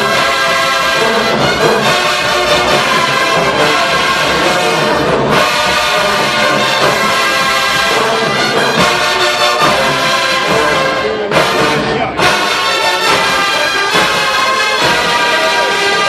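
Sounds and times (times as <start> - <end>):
marching band brass music: 0.0 - 16.0.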